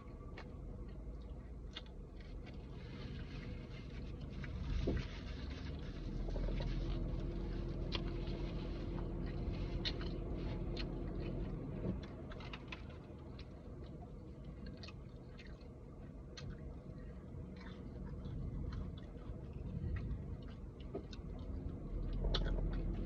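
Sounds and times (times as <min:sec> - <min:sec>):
low steady hum: 0:00.0 - 0:23.0
chewing with wet mouth clicks: 0:00.1 - 0:02.6, 0:06.3 - 0:23.0.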